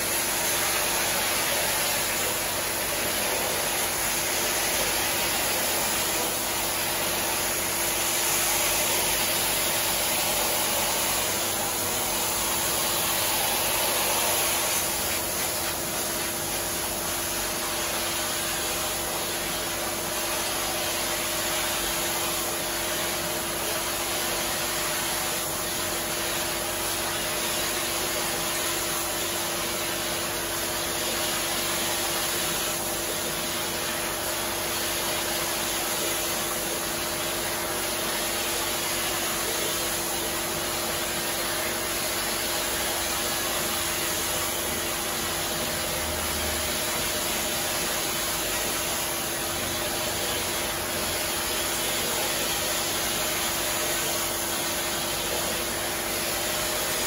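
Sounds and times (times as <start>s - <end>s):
pressure washer spraying rug: 0.0s - 57.0s.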